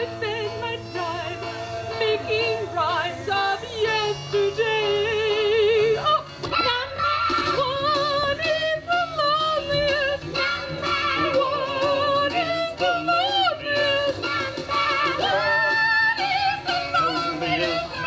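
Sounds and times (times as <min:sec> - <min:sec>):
backing music: 0:00.0 - 0:18.0
warbling vocal with vibrato: 0:02.0 - 0:18.0.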